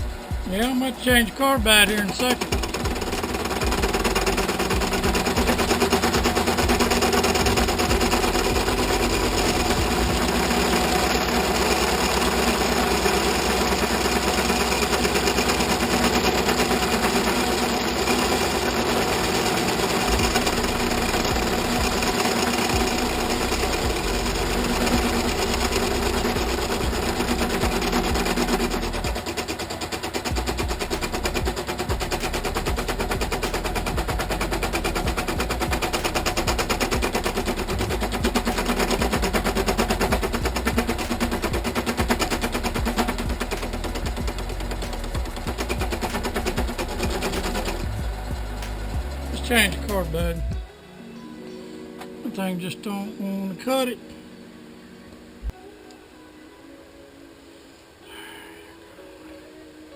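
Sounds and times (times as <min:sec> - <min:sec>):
metal lathe rattling through a cut: 0:00.0 - 0:50.6.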